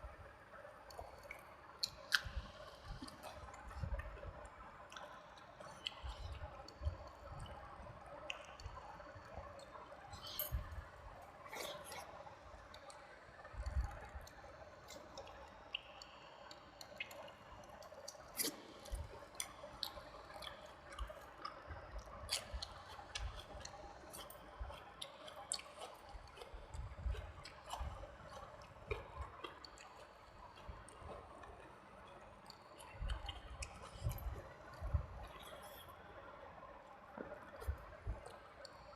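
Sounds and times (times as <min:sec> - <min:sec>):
wet chewing and lip smacking: 0:00.9 - 0:36.0.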